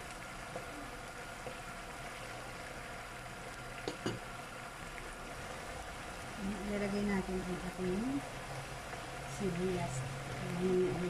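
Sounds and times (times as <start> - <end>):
sauce bubbling in frying pan: 0.0 - 11.0.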